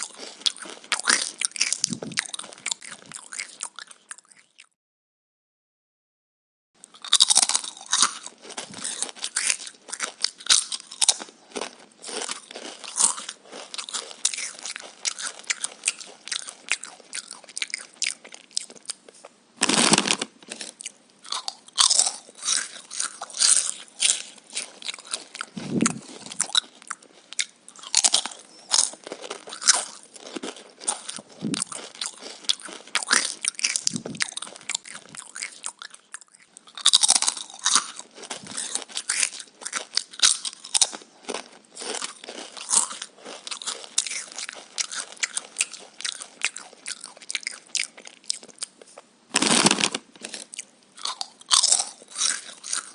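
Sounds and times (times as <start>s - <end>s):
crunchy chewing of raw vegetables: 0.0s - 4.8s, 6.8s - 52.9s.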